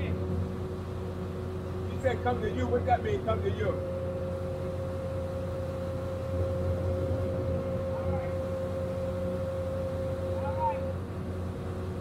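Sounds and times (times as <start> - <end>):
excavator diesel engine running: 0.0 - 12.0
steady whine: 0.0 - 12.0.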